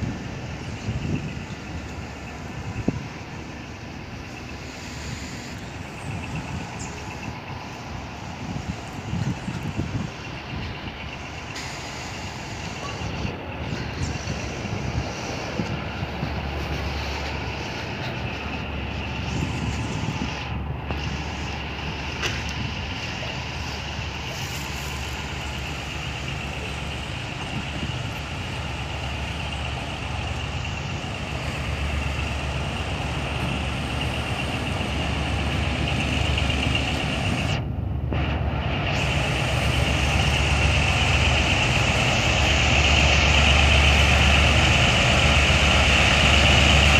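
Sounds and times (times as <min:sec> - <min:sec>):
locomotive engine drone: 0:00.0 - 0:46.9.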